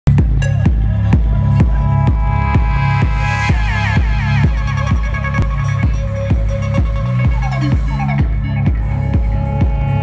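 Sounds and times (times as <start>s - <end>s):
electronic dance music: 0.1s - 10.0s
kick drum beat: 0.1s - 10.0s.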